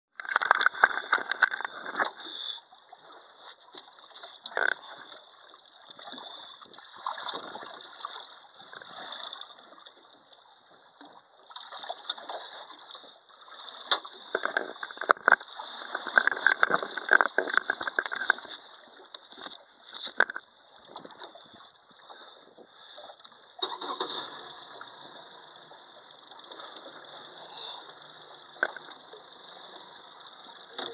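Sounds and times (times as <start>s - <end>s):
water lapping against boat hull: 0.1s - 30.9s.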